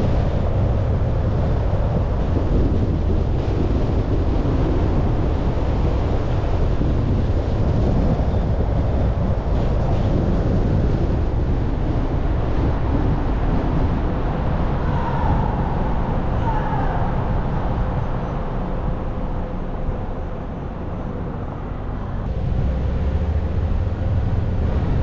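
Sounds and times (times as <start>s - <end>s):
car wind and road noise: 0.0s - 25.0s.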